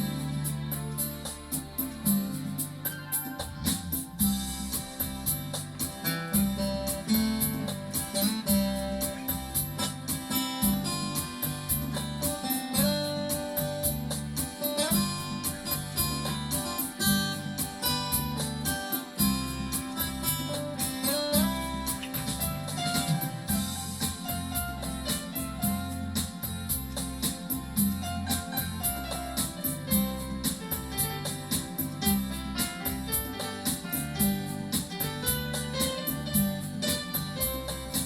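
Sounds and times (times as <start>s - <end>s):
bass and drum accompaniment: 0.0s - 38.0s
plucked keyboard melody: 0.0s - 38.0s.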